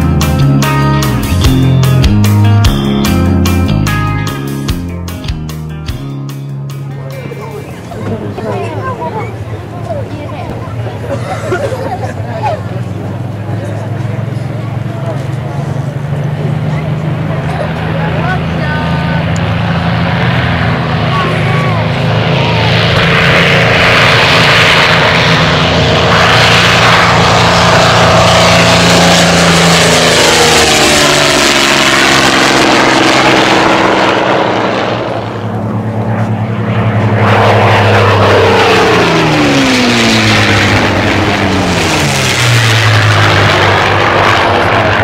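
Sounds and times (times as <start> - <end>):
propeller fighter engines droning: 0.0 - 45.0.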